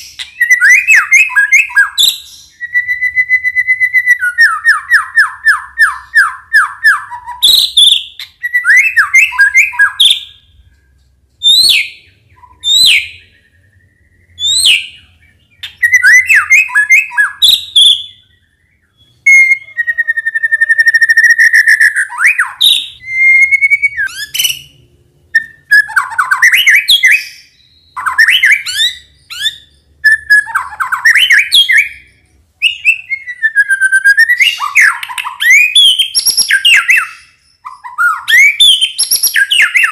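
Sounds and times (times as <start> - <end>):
songbird whistling and trilling: 0.0 - 10.7, 11.4 - 39.9.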